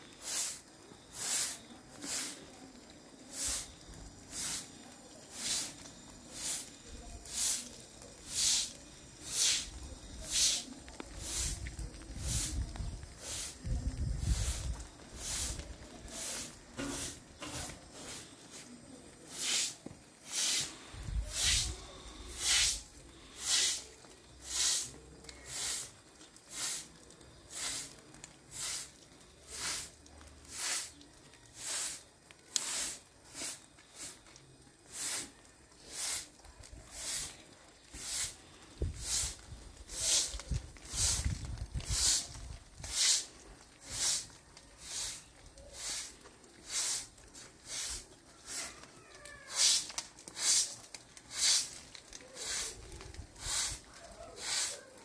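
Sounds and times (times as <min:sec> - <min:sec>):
broom sweeping wet concrete: 0:00.0 - 0:55.0.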